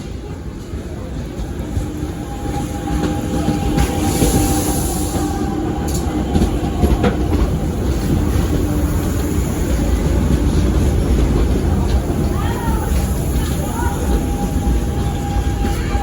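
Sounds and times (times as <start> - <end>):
train wheels rumbling on rails: 0.0 - 16.0
train motor hum: 0.5 - 16.0.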